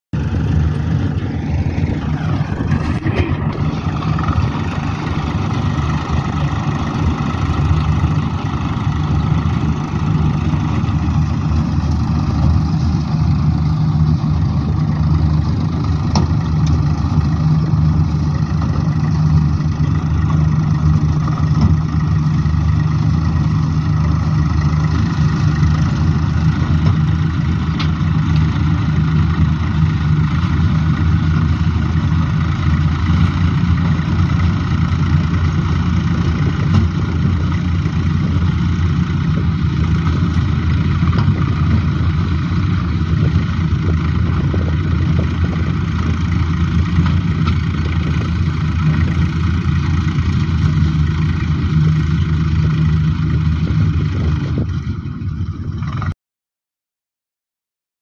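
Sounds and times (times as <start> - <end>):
tractor diesel engine running: 0.1 - 56.2.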